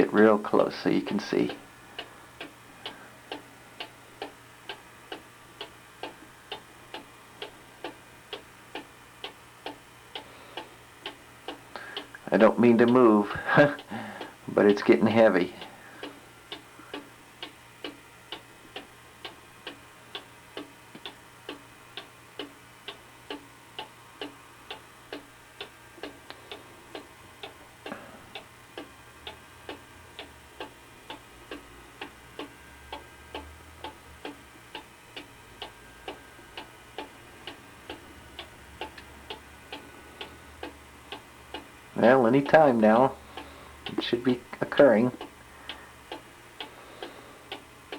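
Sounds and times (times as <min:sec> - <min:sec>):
clock ticking: 0:00.0 - 0:47.9.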